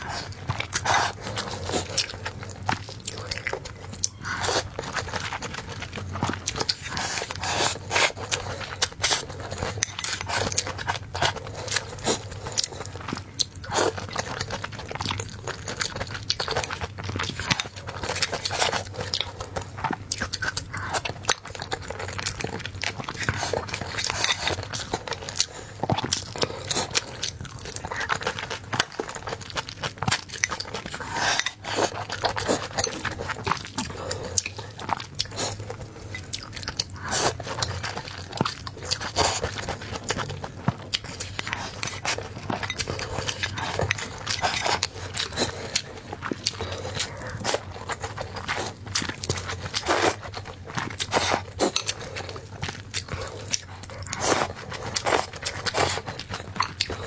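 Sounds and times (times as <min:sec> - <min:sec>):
crunchy biting and chewing: 0:00.0 - 0:57.0.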